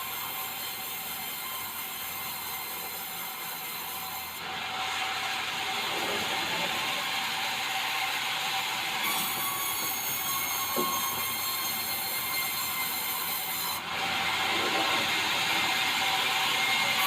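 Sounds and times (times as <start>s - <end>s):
circular saw cutting timber: 0.0s - 17.0s.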